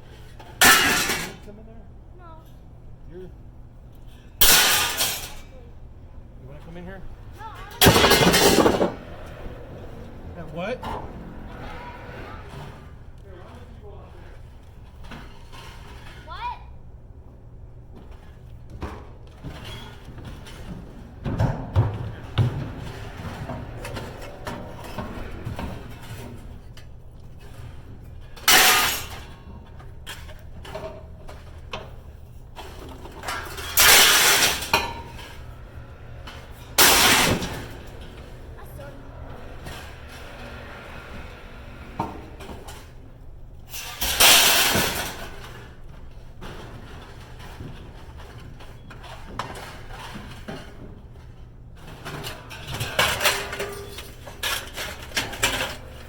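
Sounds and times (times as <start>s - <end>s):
scrap metal crashing onto pile: 0.4s - 1.5s, 4.4s - 5.5s, 7.4s - 14.4s, 18.2s - 32.0s, 32.6s - 50.8s, 51.8s - 56.0s.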